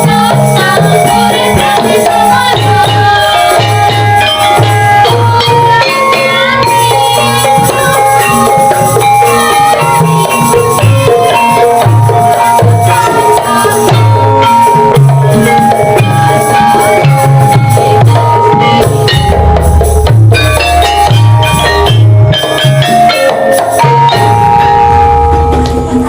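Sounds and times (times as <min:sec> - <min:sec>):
drum strokes: 0:00.0 - 0:26.0
gamelan ensemble playing: 0:00.0 - 0:26.0
ringing metallophone notes: 0:00.0 - 0:26.0.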